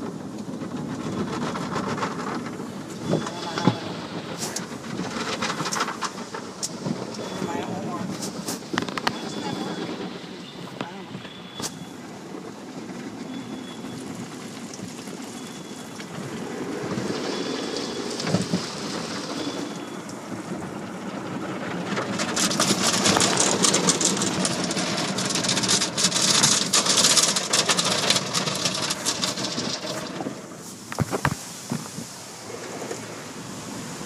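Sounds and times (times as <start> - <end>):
water spray jets on car: 0.0 - 34.0.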